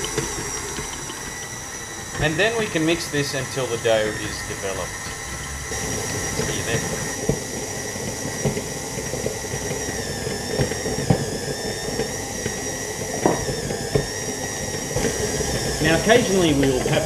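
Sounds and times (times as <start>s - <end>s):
stand mixer motor whine: 0.0s - 17.0s.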